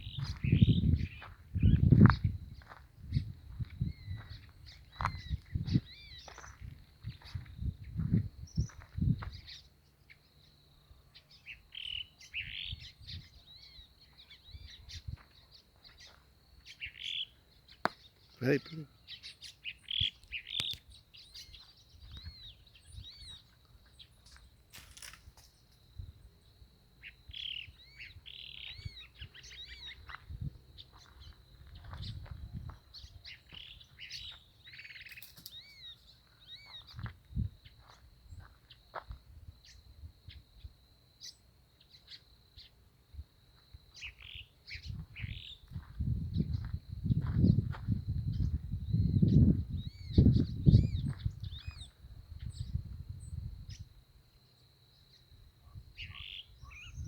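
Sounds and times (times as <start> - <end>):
small birds chirping: 0.0 - 25.8, 26.4 - 42.8, 43.9 - 53.9, 54.9 - 57.0.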